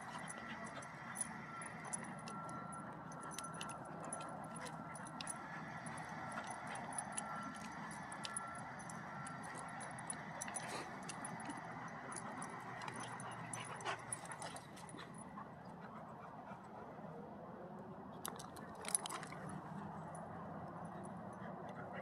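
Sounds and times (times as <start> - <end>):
collar tags jingling: 0.0 - 16.5, 18.2 - 22.0
dog panting: 0.0 - 17.4, 18.3 - 22.0
dogs play-wrestling: 0.0 - 22.0.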